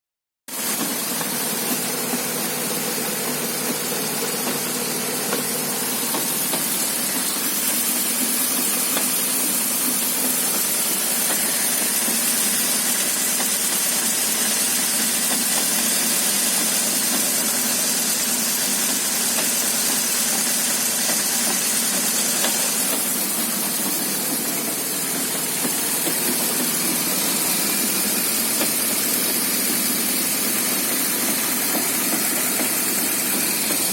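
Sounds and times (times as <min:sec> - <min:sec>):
car running with hiss: 0:00.5 - 0:33.9.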